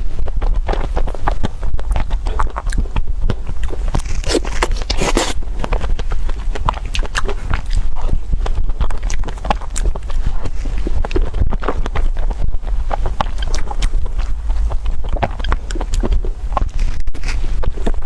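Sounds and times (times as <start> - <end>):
biting and chewing crunchy food: 0.0 - 18.0.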